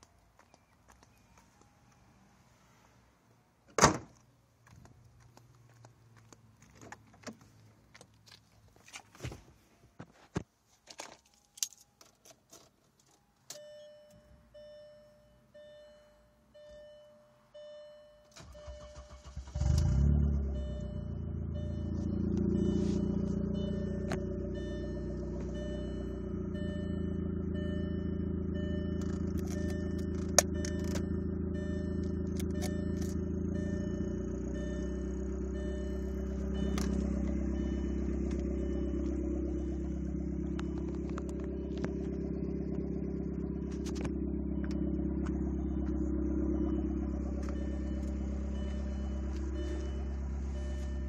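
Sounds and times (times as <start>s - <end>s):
car engine cranking and idling: 0.0s - 9.7s, 10.4s - 51.0s.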